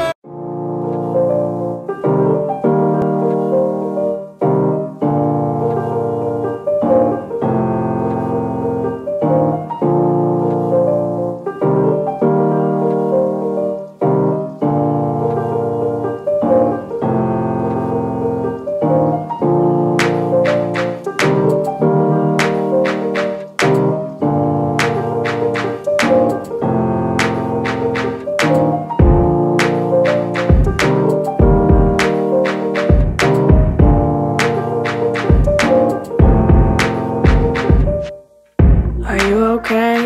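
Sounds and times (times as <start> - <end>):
piano playing held chords: 0.0 - 40.0.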